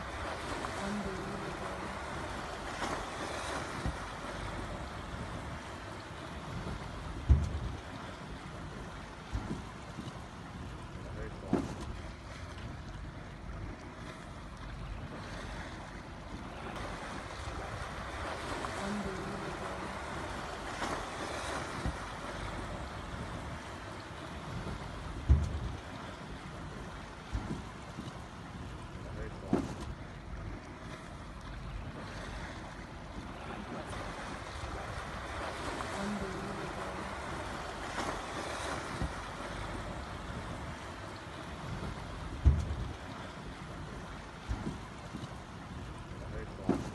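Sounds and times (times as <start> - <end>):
low hum: 0.0 - 46.9
river water lapping around boat: 0.0 - 46.9
wind rumble on microphone: 0.0 - 46.9.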